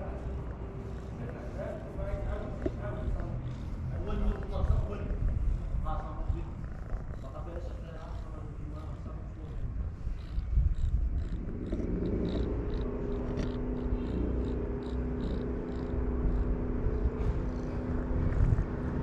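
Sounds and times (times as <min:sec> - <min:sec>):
cat purring: 0:00.0 - 0:19.0
steady low hum: 0:00.0 - 0:19.0.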